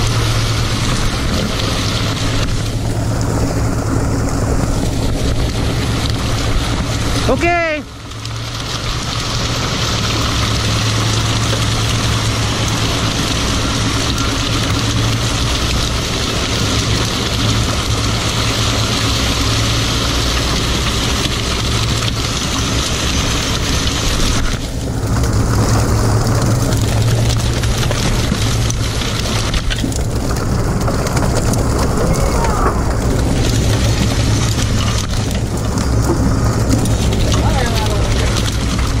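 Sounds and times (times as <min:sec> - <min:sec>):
boat engine humming: 0:00.0 - 0:39.0
broad rushing noise: 0:00.0 - 0:39.0.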